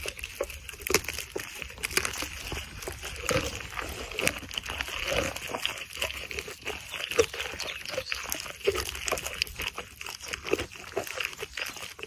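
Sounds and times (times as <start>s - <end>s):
camel chewing thorny branches: 0.0s - 12.0s.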